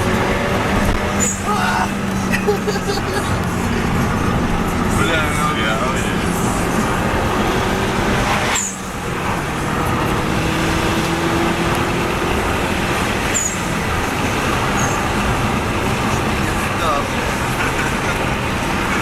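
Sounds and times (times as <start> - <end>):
car engine heard from cabin: 0.0 - 19.0.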